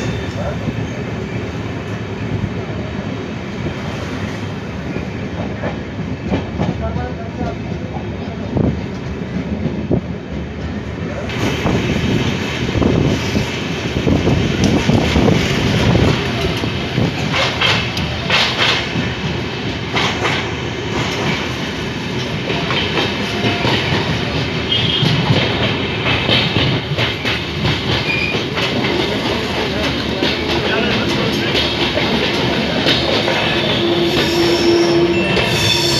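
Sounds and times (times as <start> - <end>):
clickety-clack over rail joints: 0.0 - 35.6
wheels rumbling on rails: 0.0 - 35.9.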